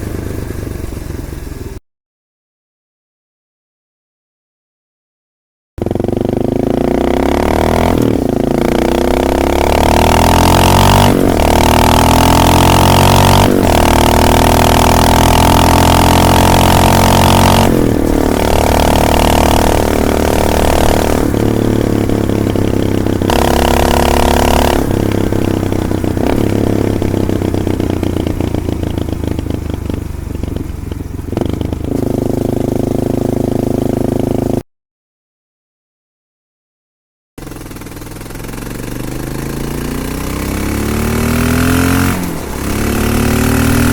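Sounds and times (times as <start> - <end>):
motorcycle engine accelerating: 0.0 - 1.8, 5.8 - 34.6, 37.4 - 43.9.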